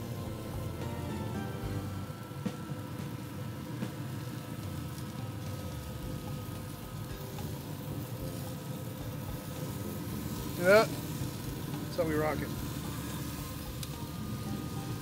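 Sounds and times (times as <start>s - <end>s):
grill fire and fan rumbling: 0.0s - 15.0s
steaks sizzling: 0.0s - 15.0s
light crackles: 2.6s - 15.0s.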